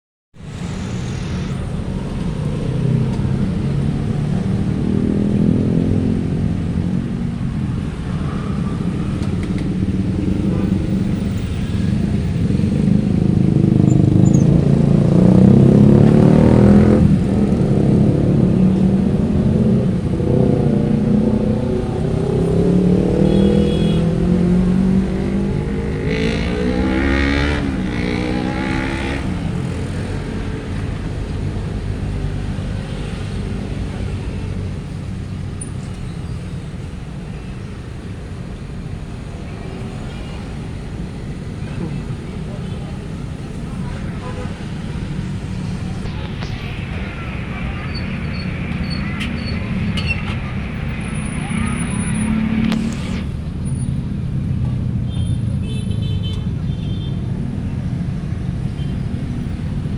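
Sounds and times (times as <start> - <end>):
cars passing: 0.4 - 59.9
motorcycles passing: 0.4 - 59.9.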